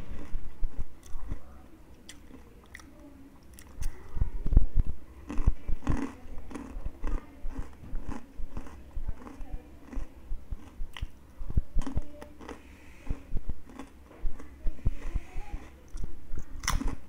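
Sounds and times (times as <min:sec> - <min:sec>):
chewing crispy chips: 0:00.0 - 0:04.0, 0:05.1 - 0:11.2, 0:11.8 - 0:17.0.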